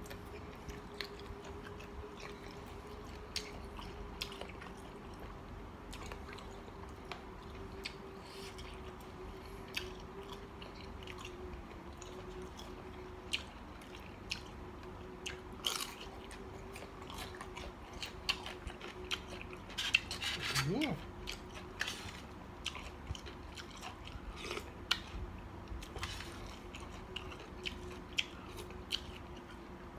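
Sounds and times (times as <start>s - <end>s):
person chewing crunchy food: 0.0s - 29.9s.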